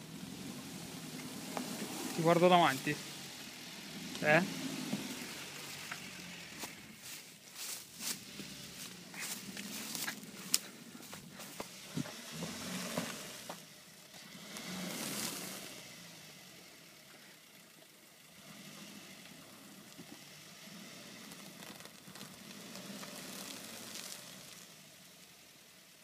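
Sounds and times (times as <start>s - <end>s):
car engine running at low revs: 0.0s - 26.0s.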